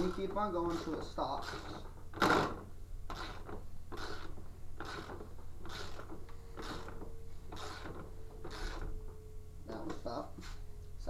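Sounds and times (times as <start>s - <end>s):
ratchet wrench ratcheting: 0.0s - 8.9s.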